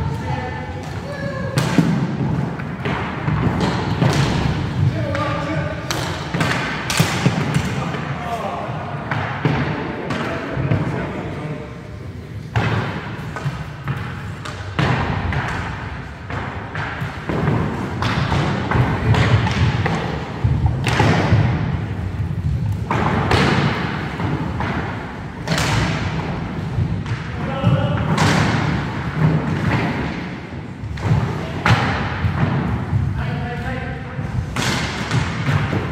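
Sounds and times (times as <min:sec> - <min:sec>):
sticks and ball striking floor: 0:00.0 - 0:35.9.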